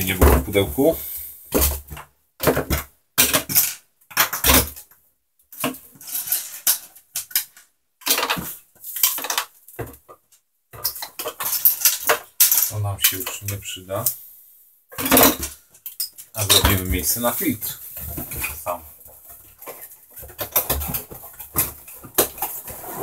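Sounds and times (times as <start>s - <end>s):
plastic parts clattering on wood: 1.5s - 13.7s, 14.9s - 17.3s, 18.0s - 22.8s.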